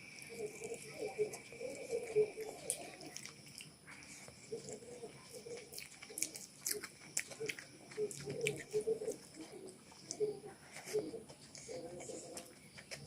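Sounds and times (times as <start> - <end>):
chewing and mouth clicks: 0.0 - 13.0
pigeon cooing: 0.0 - 13.0.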